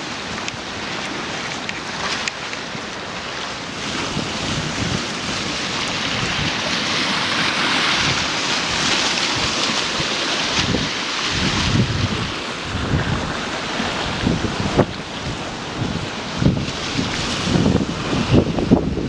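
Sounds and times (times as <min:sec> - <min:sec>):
surf breaking near shore: 0:00.0 - 0:19.0
storm wind: 0:02.7 - 0:19.0
wind buffeting microphone: 0:03.7 - 0:19.0.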